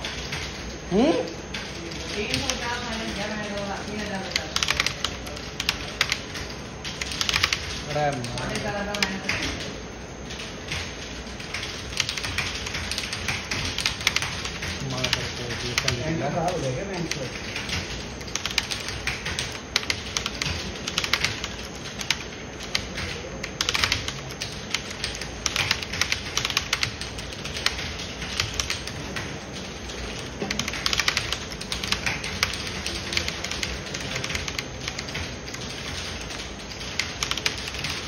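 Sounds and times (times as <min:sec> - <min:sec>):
typing on computer keyboard: 0:00.0 - 0:38.0.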